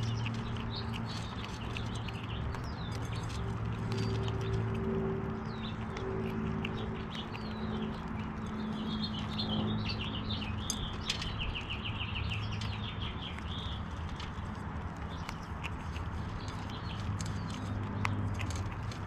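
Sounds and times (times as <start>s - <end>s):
small birds chirping: 0.0s - 19.0s
squirrels nibbling clicks: 0.0s - 19.0s
steady low hum: 0.0s - 19.0s.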